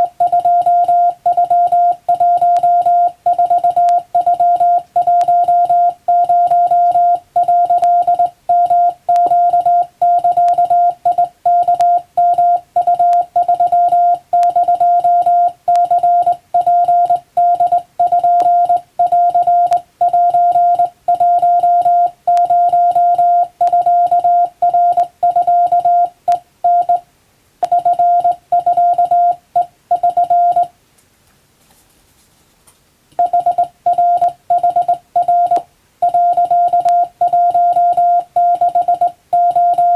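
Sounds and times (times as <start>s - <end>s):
morse code tone: 0.0s - 27.0s, 27.6s - 30.7s, 33.2s - 39.9s.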